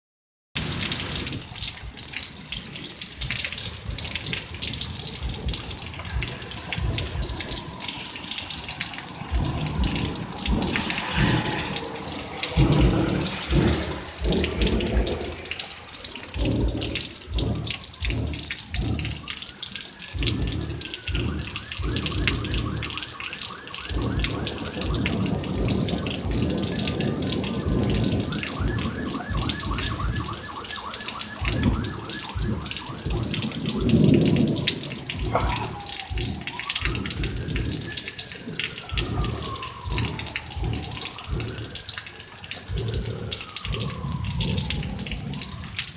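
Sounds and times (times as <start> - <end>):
rain falling and dripping: 0.6 - 45.9
siren wailing: 2.8 - 45.9.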